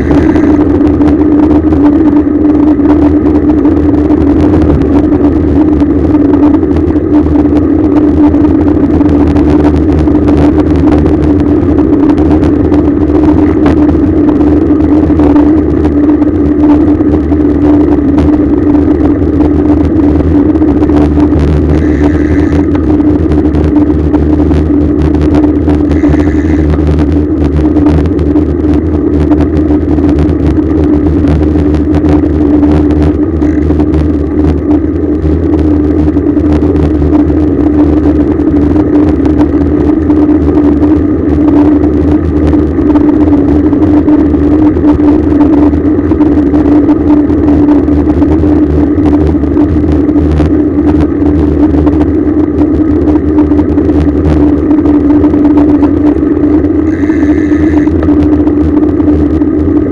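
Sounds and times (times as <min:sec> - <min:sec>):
constant hum: 0:00.0 - 0:59.9
road rumble: 0:00.0 - 0:59.9
wind on microphone: 0:00.0 - 0:59.9.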